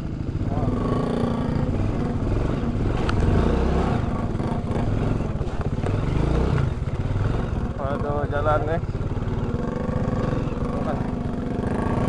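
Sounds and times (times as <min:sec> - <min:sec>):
scooter engine running at low speed: 0:00.0 - 0:12.0.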